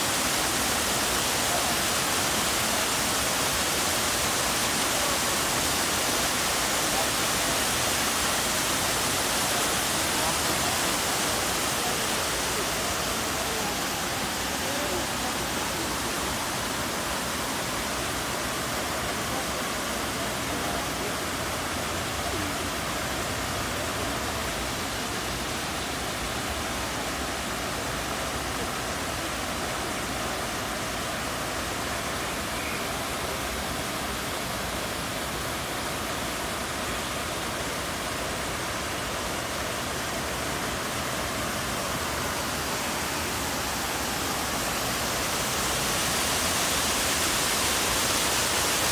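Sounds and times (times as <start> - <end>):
fountain jets splashing into basin: 0.0 - 48.9.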